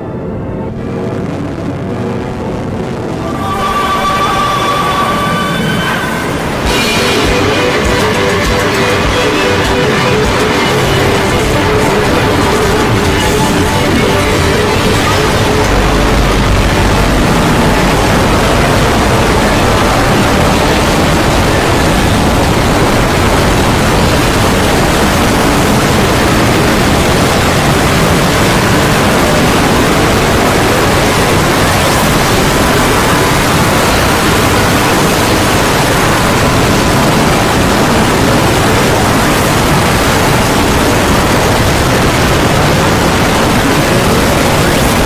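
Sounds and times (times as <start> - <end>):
loud harsh distorted noise: 0.0 - 45.0.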